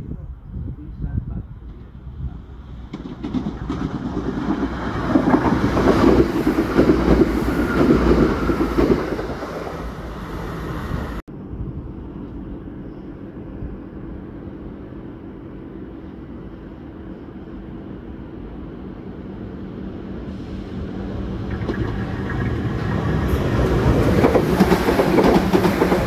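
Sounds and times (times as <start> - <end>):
train rumbling away: 0.0 - 26.0
passenger train passing: 1.1 - 26.0.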